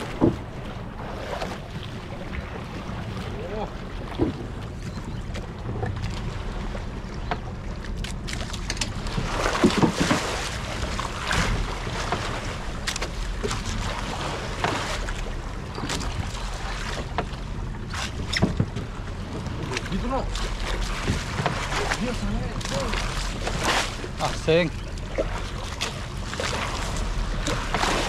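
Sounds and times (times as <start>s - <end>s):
water sloshing against boat hull: 0.0s - 28.0s.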